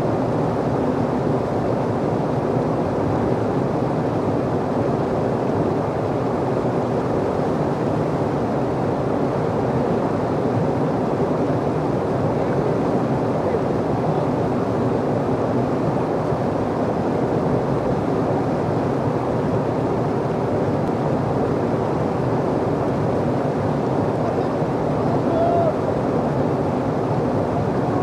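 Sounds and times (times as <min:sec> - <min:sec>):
whitewater rushing: 0:00.0 - 0:28.0.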